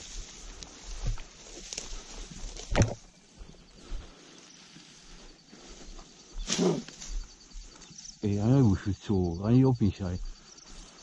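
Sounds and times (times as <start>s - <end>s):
footsteps through tall grass: 0.0s - 11.0s.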